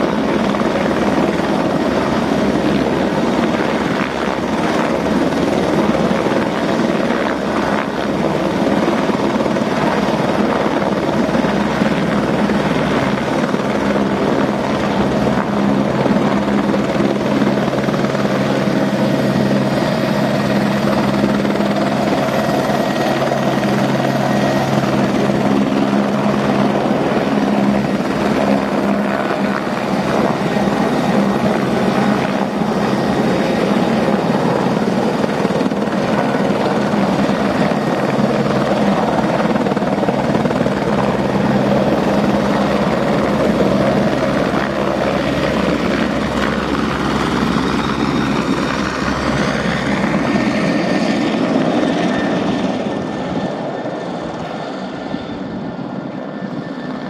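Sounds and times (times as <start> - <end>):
helicopter rotor and turbines: 0.0 - 57.0.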